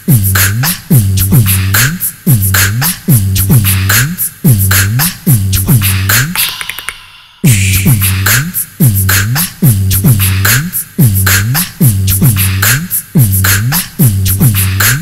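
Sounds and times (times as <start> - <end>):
electronic hip-hop beat: 0.0 - 15.0.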